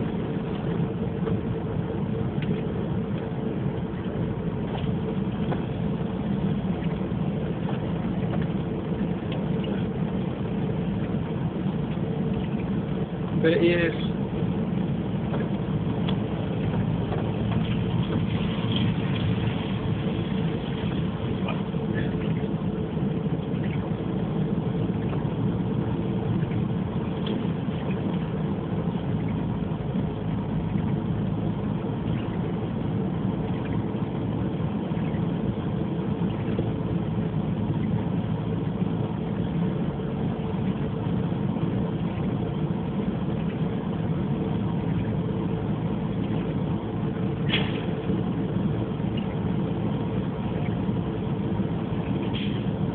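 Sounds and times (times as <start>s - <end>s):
car engine hum: 0.0s - 52.9s
road noise inside car: 0.0s - 52.9s.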